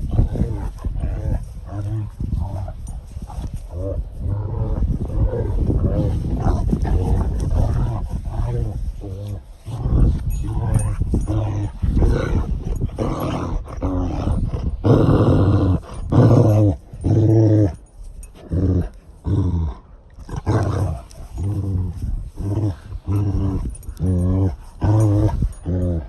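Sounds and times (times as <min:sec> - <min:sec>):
dogs growling in play: 0:00.0 - 0:26.0.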